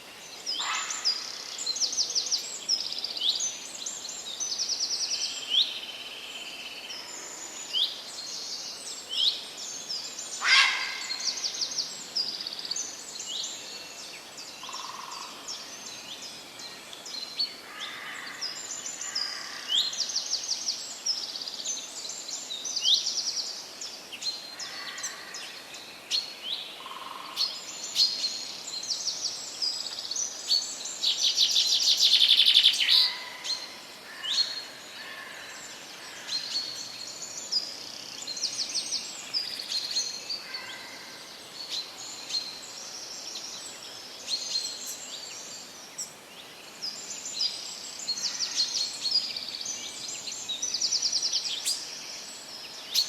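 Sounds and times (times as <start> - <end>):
birds chirping and trilling: 0.0 - 5.8, 6.9 - 23.6, 24.2 - 53.0
faint steady hiss: 0.0 - 53.0.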